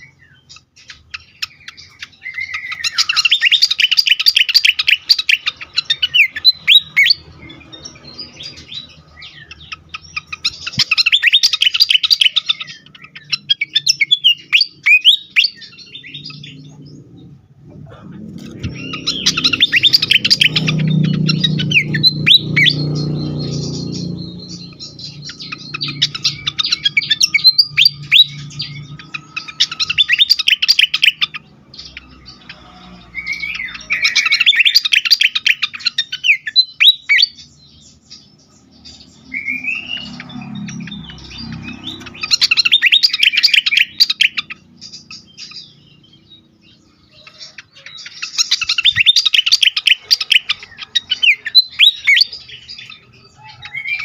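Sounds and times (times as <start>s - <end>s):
bird chattering high chirps: 0.0s - 54.0s.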